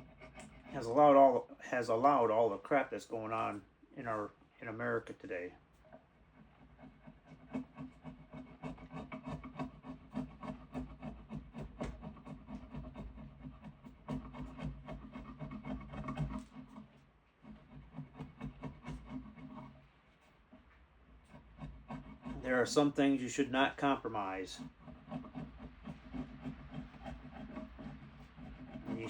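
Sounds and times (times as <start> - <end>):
hand scraping a wooden stick: 0.0 - 29.0.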